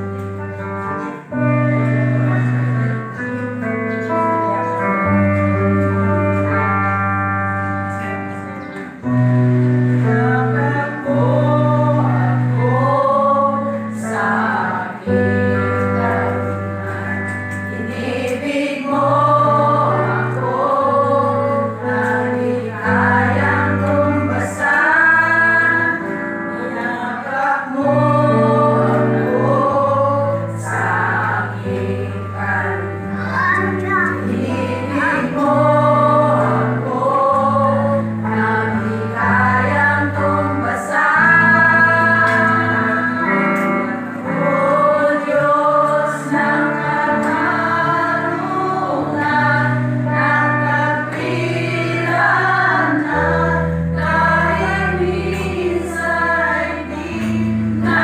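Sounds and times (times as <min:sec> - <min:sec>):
women's vocal group singing gospel: 0:09.0 - 0:58.0.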